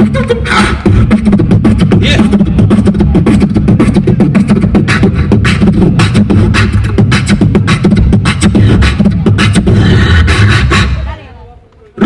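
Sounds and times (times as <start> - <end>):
beatboxing into a microphone: 0.0 - 11.2.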